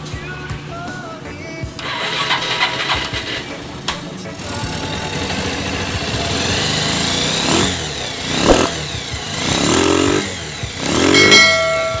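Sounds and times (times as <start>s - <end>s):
motorcycle engine revving: 1.7s - 12.0s.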